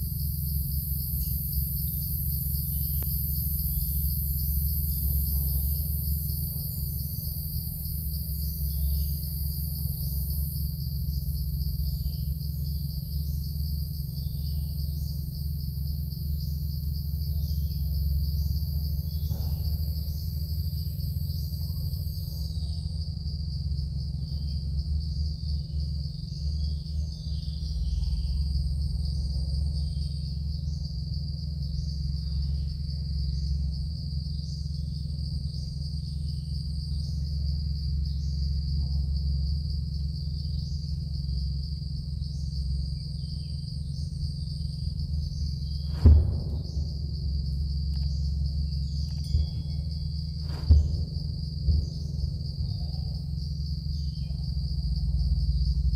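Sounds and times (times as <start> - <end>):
insects chirring trill: 0.0 - 55.9
low hum: 0.0 - 55.9.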